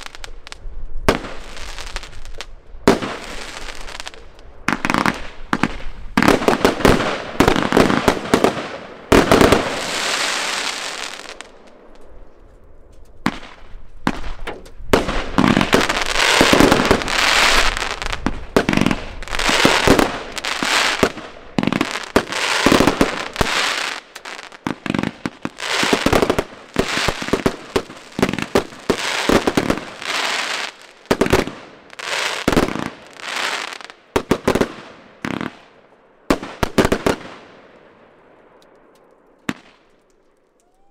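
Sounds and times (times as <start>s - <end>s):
fireworks hissing and crackling: 0.0s - 11.5s, 13.3s - 35.7s
fireworks bangs: 0.0s - 12.0s, 13.2s - 35.7s, 36.3s - 37.6s.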